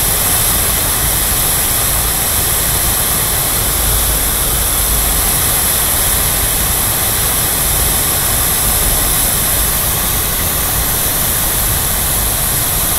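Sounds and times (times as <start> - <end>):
fountain water splashing: 0.0 - 12.9.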